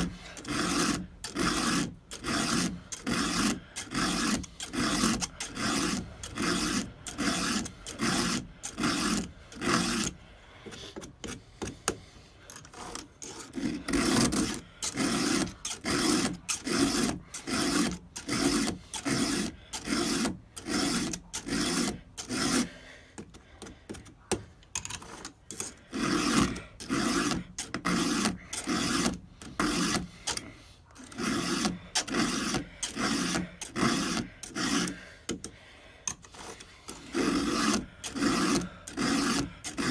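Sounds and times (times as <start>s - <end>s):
file rasping on chainsaw chain: 0.0s - 39.9s.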